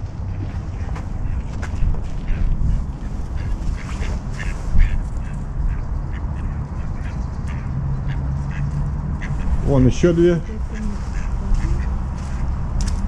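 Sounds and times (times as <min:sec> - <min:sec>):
ducks quacking: 0:00.8 - 0:12.6.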